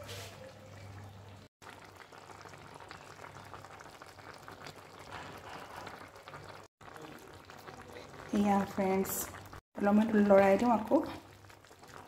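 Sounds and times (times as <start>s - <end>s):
curry bubbling and popping: 0.4s - 12.0s.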